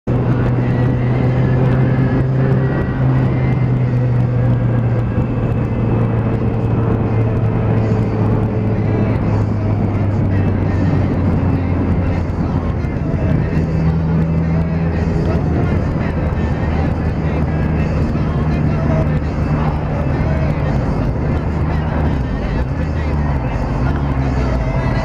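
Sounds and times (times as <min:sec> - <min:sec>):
motorcycle engine running: 0:00.0 - 0:25.0
wind noise: 0:00.1 - 0:25.0.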